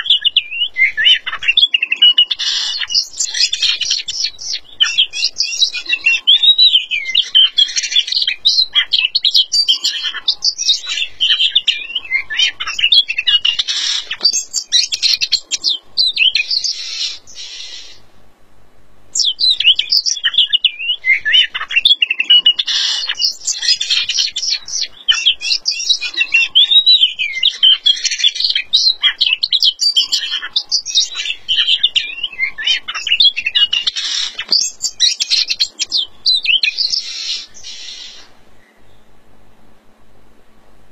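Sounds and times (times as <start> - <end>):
bird singing: 0.0 - 18.1, 19.1 - 39.2.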